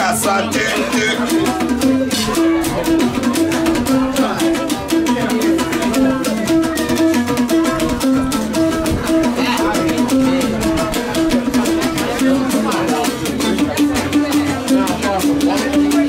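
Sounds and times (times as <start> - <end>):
plucked lute melody: 0.0 - 16.0
rattling beat: 0.0 - 16.0.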